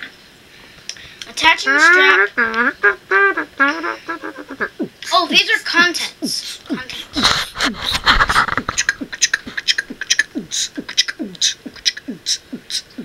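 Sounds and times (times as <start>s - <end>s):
beatbox mouth noises: 0.8s - 13.0s.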